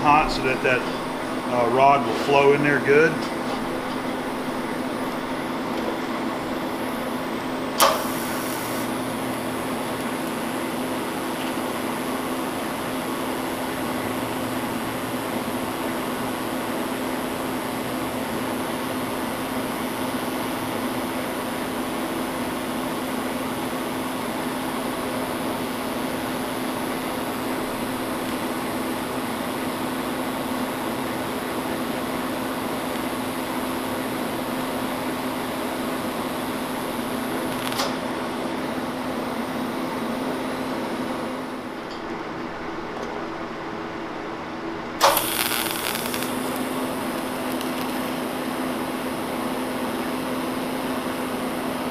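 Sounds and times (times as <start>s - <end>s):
welding arc buzzing: 0.0s - 43.3s, 45.0s - 51.9s.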